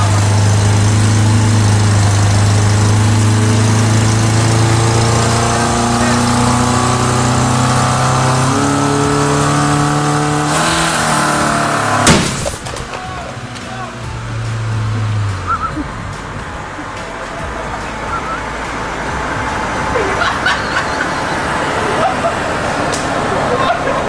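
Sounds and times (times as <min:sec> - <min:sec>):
car engine revving under load: 0:00.0 - 0:24.0.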